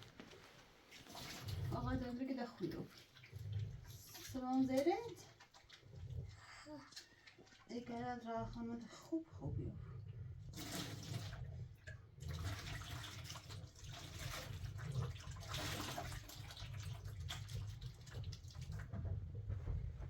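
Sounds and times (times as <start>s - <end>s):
water running and splashing: 0.2s - 8.7s, 10.5s - 11.6s, 12.2s - 18.9s.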